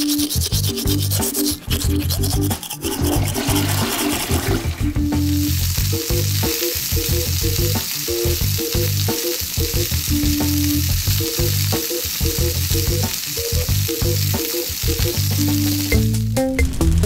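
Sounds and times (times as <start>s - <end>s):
bouncy background music: 0.0s - 17.0s
frying sizzle: 2.9s - 17.0s.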